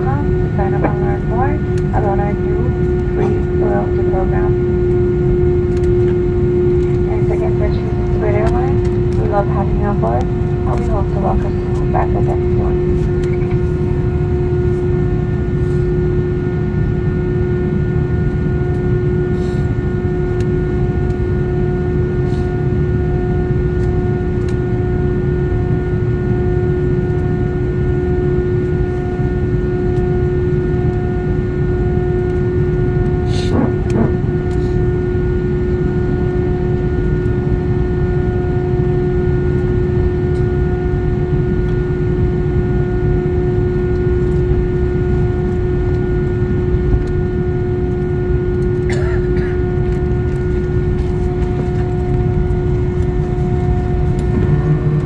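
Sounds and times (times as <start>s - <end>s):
low cabin rumble: 0.0s - 21.9s, 27.1s - 55.0s
jet engines idling: 0.0s - 25.5s, 26.1s - 55.0s.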